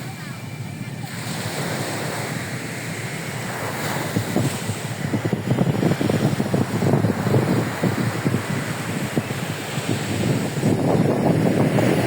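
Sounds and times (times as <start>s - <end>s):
surf washing: 0.0s - 12.0s
wind buffeting microphone: 0.0s - 12.0s.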